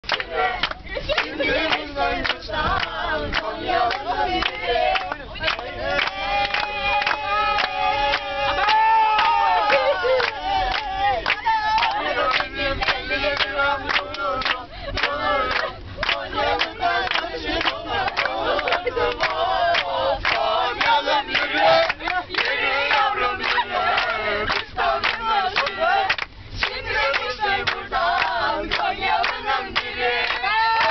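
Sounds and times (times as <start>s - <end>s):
group singing loudly: 0.0s - 30.9s.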